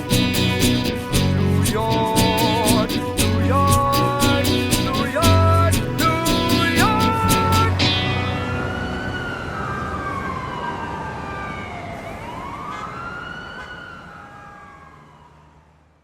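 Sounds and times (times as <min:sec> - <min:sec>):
emergency vehicle siren wailing: 0:00.0 - 0:16.0
street traffic noise: 0:00.0 - 0:16.0.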